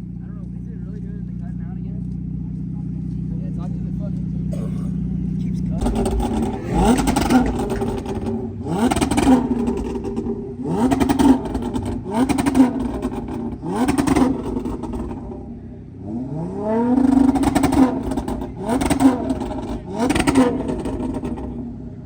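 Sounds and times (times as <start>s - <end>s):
exhaust crackling and popping: 0.0s - 22.0s
car engine revving: 0.2s - 22.0s.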